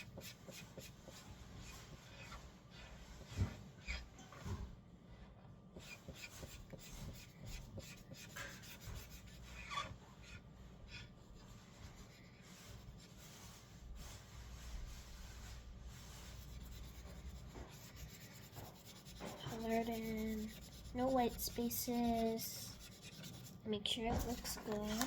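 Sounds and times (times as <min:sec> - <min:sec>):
marker scratching on paper: 0:00.0 - 0:04.0, 0:05.8 - 0:25.0.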